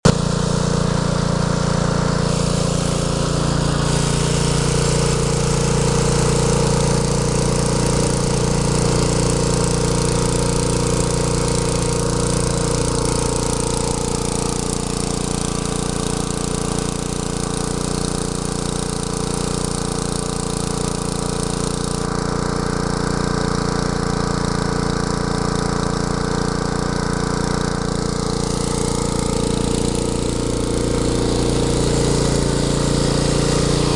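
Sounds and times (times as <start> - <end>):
garden tractor engine running: 0.0 - 33.9.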